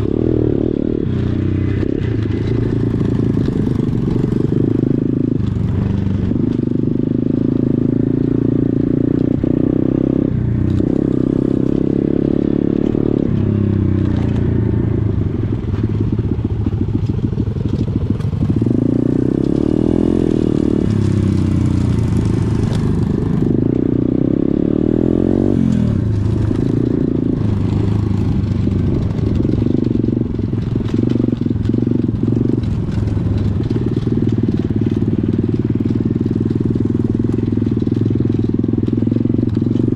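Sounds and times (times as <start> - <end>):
pit bike engine revving: 0.0 - 16.0, 18.2 - 39.9.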